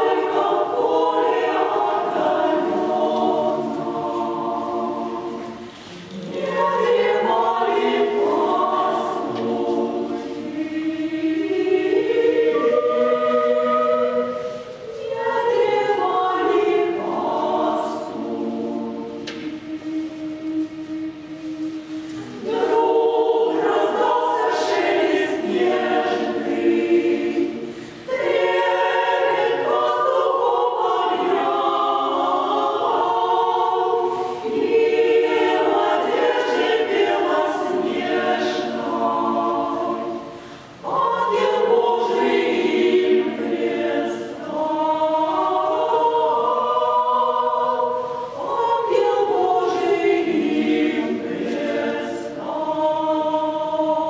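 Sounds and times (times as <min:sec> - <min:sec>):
women's choir singing a cappella: 0:00.0 - 0:54.0.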